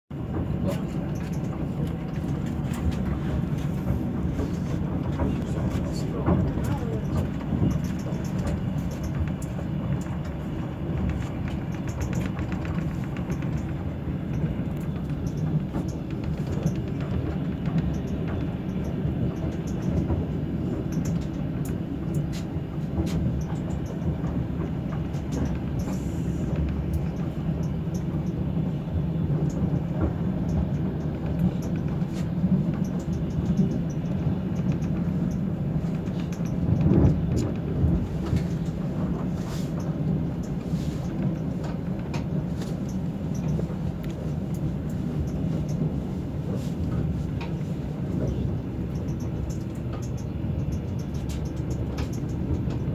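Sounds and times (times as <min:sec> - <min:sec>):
train wheels running on track: 0:00.1 - 0:52.9
faint clicks and rattles: 0:00.2 - 0:52.9.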